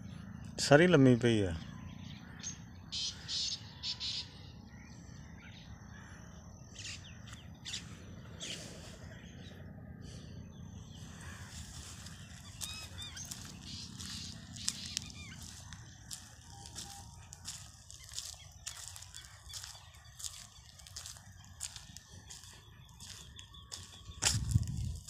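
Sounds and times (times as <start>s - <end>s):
small birds chirping: 0.0s - 25.0s
steady low rumble: 4.6s - 25.0s.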